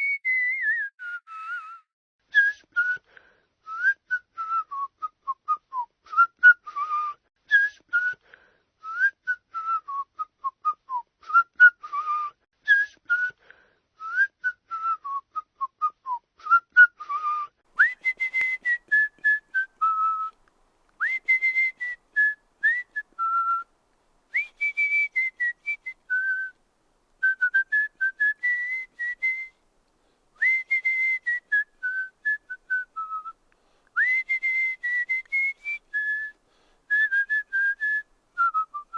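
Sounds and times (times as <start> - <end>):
person whistling a tune: 0.0 - 8.2, 8.8 - 13.4, 14.0 - 20.4, 21.0 - 23.7, 24.3 - 26.6, 27.2 - 29.6, 30.4 - 33.4, 34.0 - 38.9.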